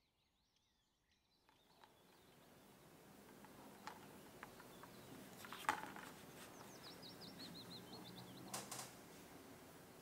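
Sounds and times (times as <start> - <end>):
bird chirping: 0.0 - 8.9.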